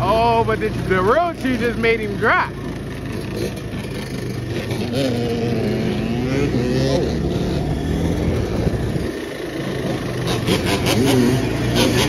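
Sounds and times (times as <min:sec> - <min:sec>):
quad bike engine revving: 0:00.0 - 0:12.0
quad engines idling: 0:00.0 - 0:12.0.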